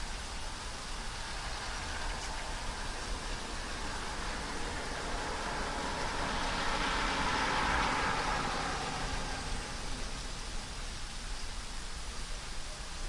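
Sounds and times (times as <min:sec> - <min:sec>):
steady rain: 0:00.0 - 0:13.0
tyres hissing on wet road: 0:00.0 - 0:13.0.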